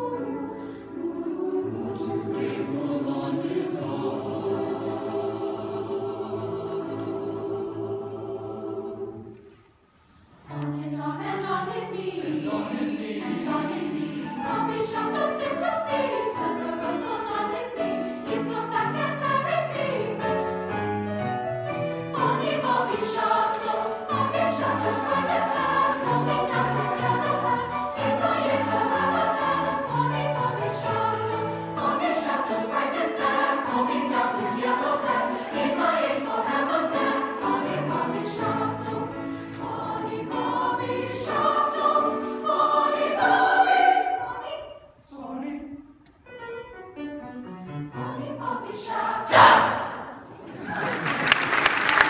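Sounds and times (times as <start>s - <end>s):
choir of young voices singing: 0.0s - 21.0s, 21.8s - 46.3s, 47.7s - 50.6s.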